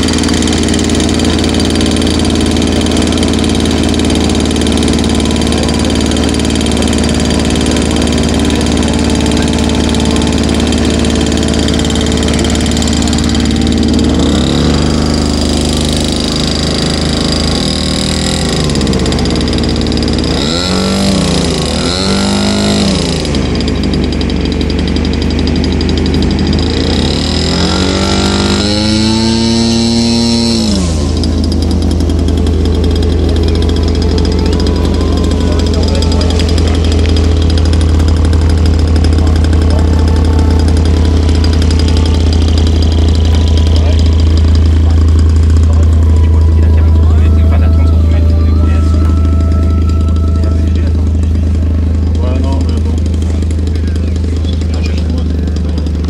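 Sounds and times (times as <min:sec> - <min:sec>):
model aircraft engine revving: 0:00.0 - 0:56.0.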